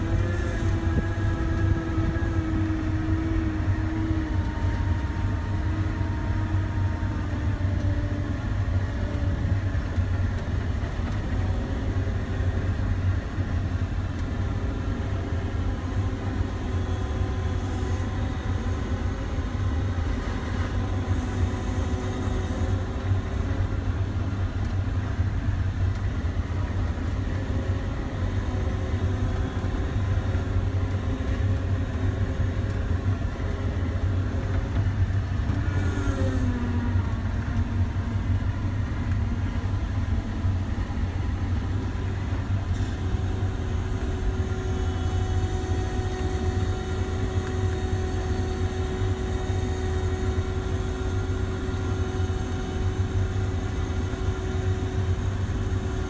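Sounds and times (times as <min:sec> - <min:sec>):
diesel engine drone: 0:00.0 - 0:56.0
faint whining tones: 0:00.0 - 0:56.0.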